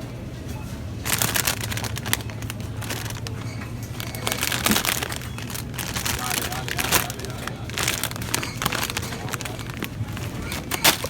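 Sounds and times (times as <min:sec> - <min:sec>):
plastic packaging crinkling: 0:01.0 - 0:11.0.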